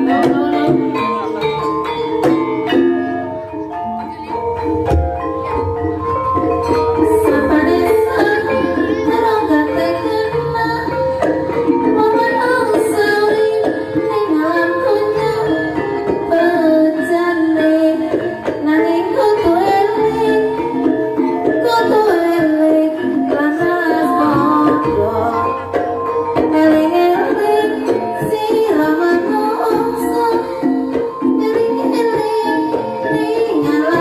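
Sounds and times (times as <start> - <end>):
woman singing: 0.0 - 1.3, 7.0 - 34.0
gamelan ensemble playing: 0.0 - 34.0.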